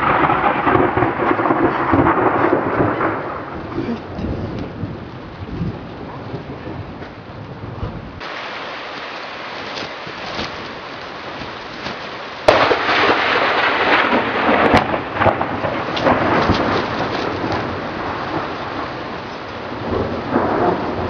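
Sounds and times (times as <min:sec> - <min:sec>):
steady rain: 0:00.0 - 0:21.0
thunderclap crackling and rumbling: 0:00.0 - 0:21.0.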